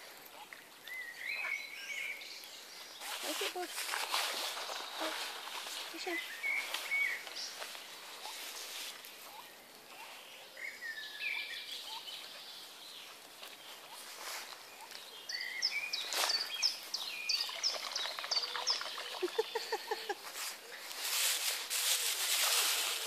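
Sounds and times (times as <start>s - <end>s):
songbirds chirping: 0.0s - 23.0s
steady outdoor hiss: 0.0s - 23.0s.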